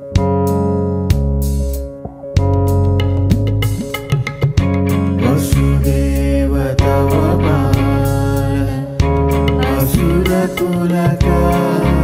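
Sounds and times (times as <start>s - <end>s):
keyboard chords over bass: 0.0s - 12.0s.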